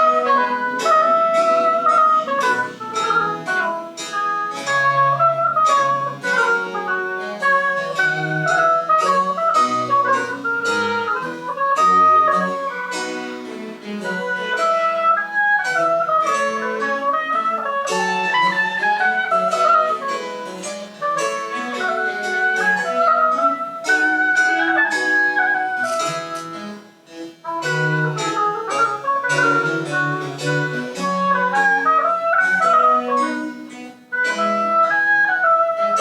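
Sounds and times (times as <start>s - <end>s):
plucked strings: 0.0s - 36.0s
wind instrument melody: 0.0s - 36.0s.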